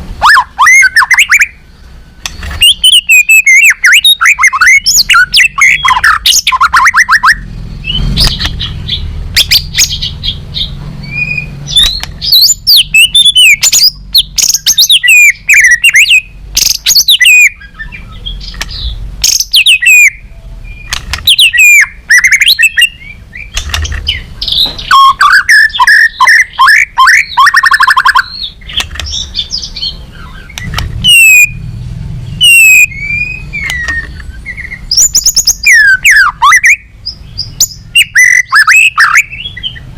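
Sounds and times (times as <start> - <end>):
bird singing whistled song: 0.2 - 1.6, 2.2 - 39.9.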